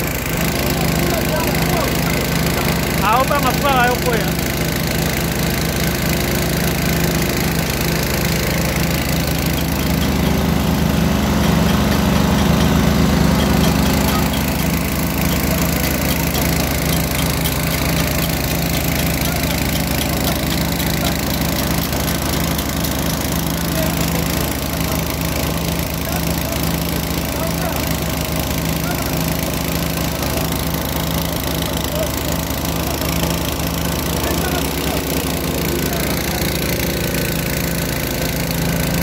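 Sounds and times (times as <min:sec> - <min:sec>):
drilling rig engine running: 0:00.0 - 0:39.0.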